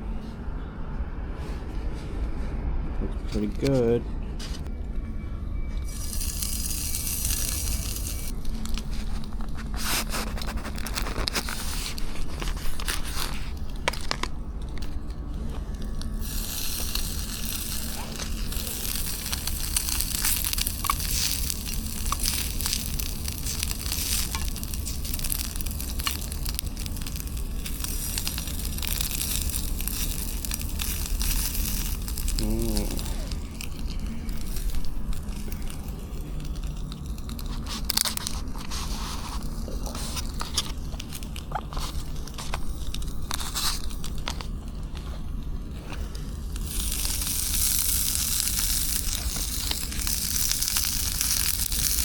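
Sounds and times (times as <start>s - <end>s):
steak sizzling and crackling: 5.9s - 52.0s.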